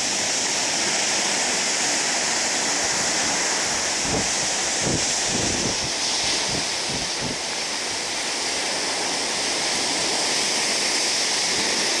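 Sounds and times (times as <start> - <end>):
sea water rushing: 0.0 - 12.0
wind gusting on microphone: 1.8 - 12.0.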